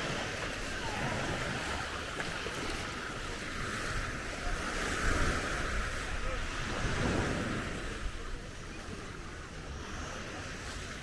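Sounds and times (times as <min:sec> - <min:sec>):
waves washing onto beach: 0:00.0 - 0:11.0
wind rumble on microphone: 0:00.0 - 0:11.0.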